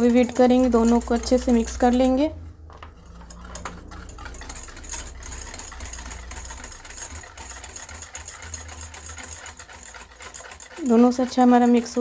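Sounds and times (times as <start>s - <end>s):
whisk ticking against metal bowl: 0.0s - 12.0s.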